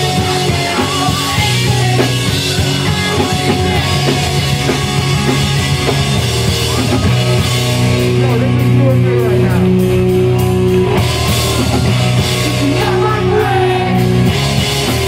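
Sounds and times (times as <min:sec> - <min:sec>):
bass guitar: 0:00.0 - 0:15.0
distorted electric guitars: 0:00.0 - 0:15.0
pounding drum kit: 0:00.0 - 0:15.0.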